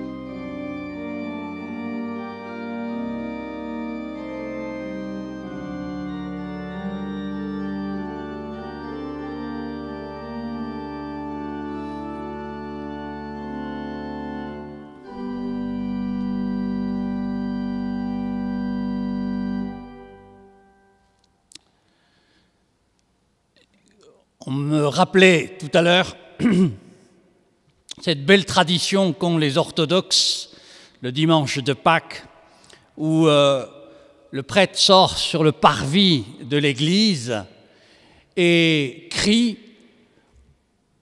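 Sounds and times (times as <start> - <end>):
church organ chords: 0.0 - 21.4, 24.4 - 27.0, 28.0 - 40.4.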